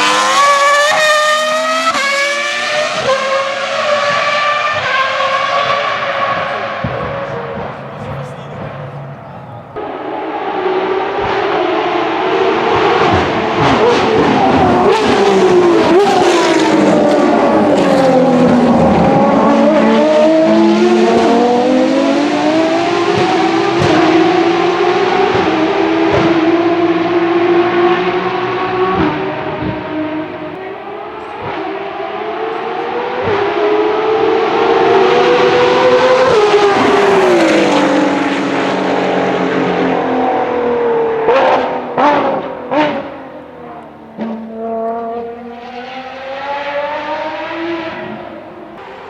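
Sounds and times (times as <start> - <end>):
racing car engine revving: 0.0 - 49.0.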